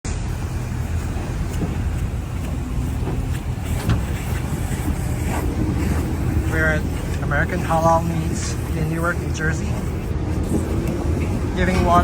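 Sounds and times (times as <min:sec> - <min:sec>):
truck engine idling: 0:00.1 - 0:12.0.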